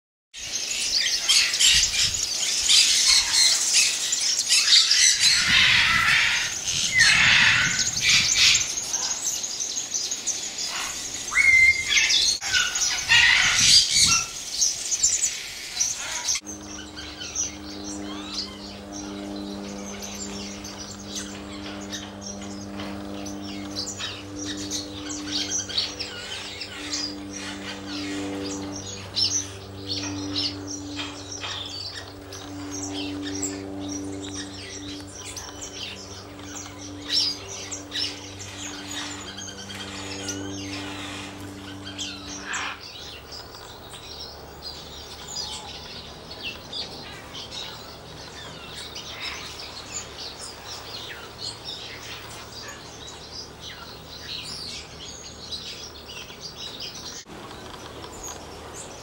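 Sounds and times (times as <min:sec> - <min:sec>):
small birds chirping and twittering: 0:00.4 - 0:59.0
steady low hum: 0:00.4 - 0:59.0.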